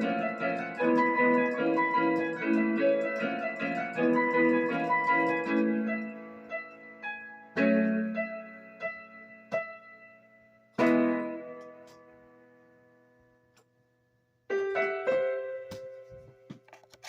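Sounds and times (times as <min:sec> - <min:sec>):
electronic keyboard piano chords: 0:00.0 - 0:16.6.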